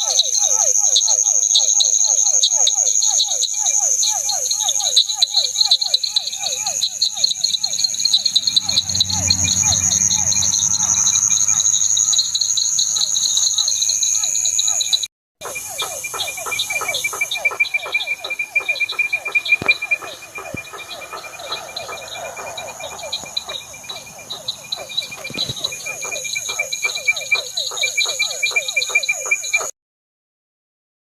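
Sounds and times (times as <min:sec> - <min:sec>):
crickets trilling: 0:00.0 - 0:29.7
frogs calling: 0:00.0 - 0:29.7.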